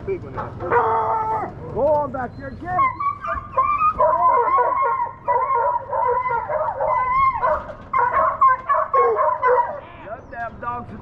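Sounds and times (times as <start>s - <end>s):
hounds baying and howling: 0.6s - 1.6s, 2.6s - 10.4s.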